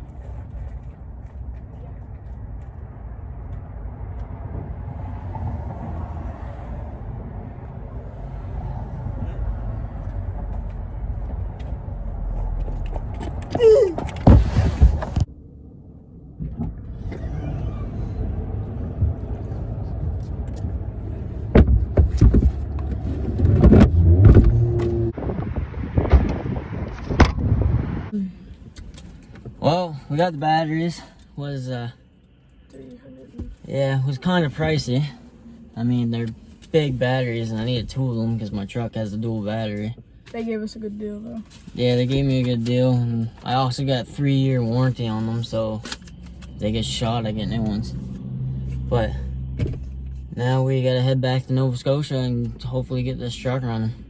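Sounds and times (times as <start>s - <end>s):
vehicle engine low rumble: 0.0s - 54.0s.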